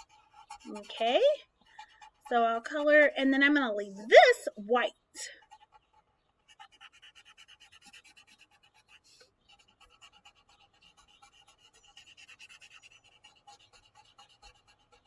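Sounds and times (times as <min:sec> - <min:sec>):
marker scribbling on paper: 0:00.0 - 0:15.0.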